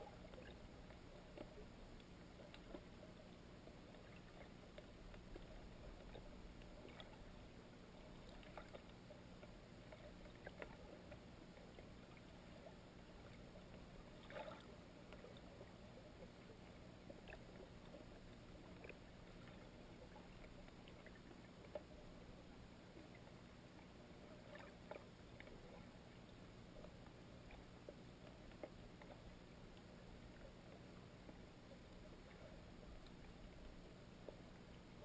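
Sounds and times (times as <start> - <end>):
crackle: 0.0 - 35.0
faint low hum and hiss: 0.0 - 35.0.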